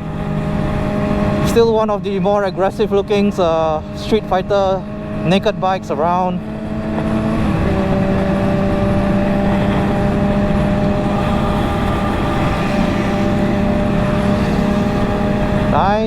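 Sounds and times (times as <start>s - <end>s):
heavy wind: 0.0s - 16.0s
motorcycle engines cruising: 0.0s - 16.0s
road rumble: 0.0s - 16.0s.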